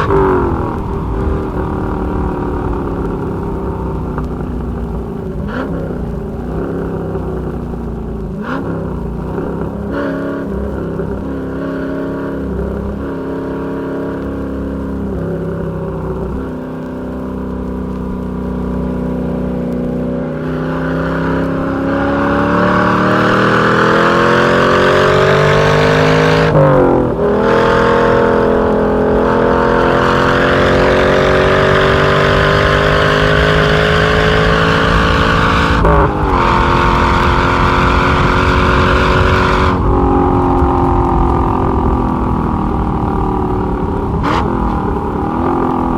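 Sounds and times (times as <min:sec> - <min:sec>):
car engine accelerating through gears: 0:00.0 - 0:45.9.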